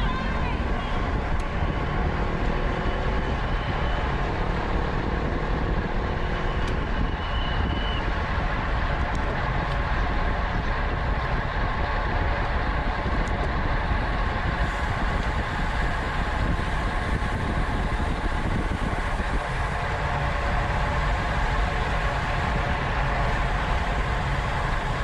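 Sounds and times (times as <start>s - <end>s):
bike road noise: 0.0s - 25.0s
wind buffeting microphone: 0.0s - 25.0s
wind rush: 0.0s - 25.0s.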